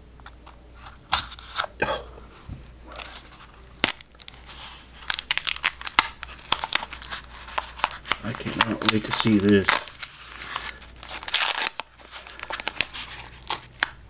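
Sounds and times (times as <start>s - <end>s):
paper and card crinkling: 2.3s - 14.0s.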